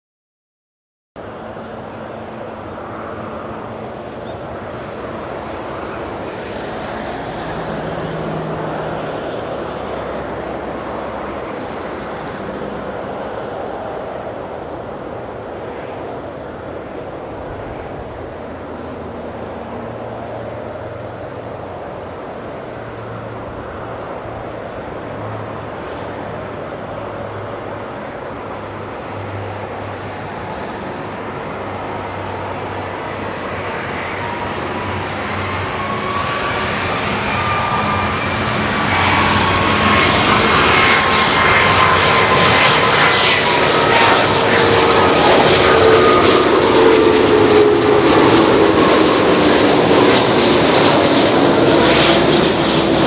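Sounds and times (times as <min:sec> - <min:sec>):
jet engines rumbling: 0:01.2 - 0:53.0.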